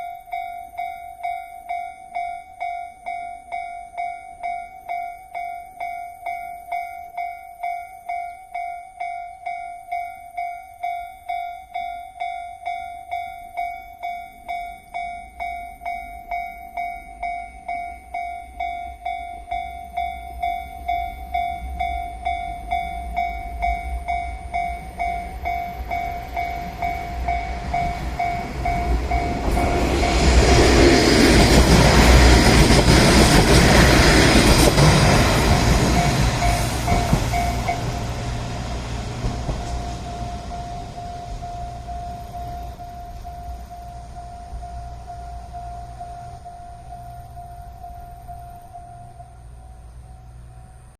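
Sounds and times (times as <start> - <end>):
level crossing bell ringing: 0.0 - 30.4, 35.2 - 38.3, 39.5 - 49.9
diesel railcar engine and wheels: 0.0 - 50.9.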